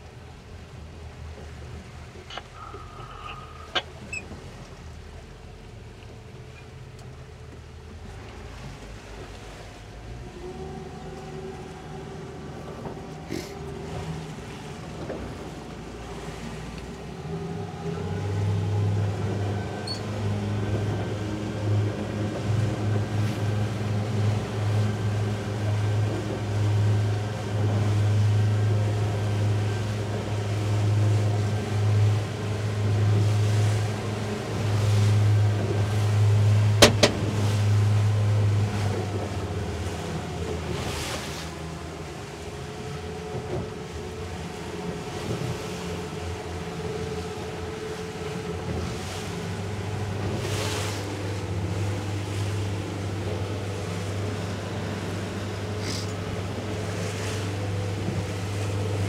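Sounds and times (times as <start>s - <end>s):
outboard motors throttling up: 0.0s - 59.0s.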